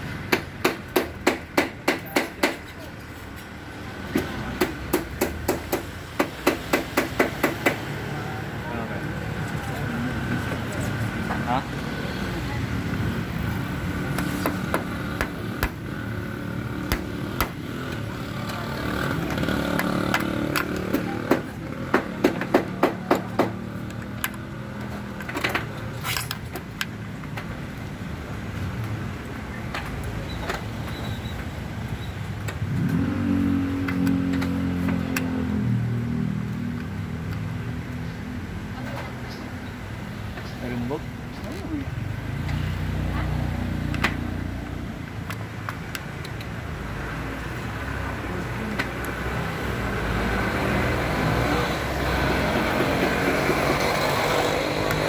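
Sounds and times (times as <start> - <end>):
vehicle engine hum: 4.0 - 55.0.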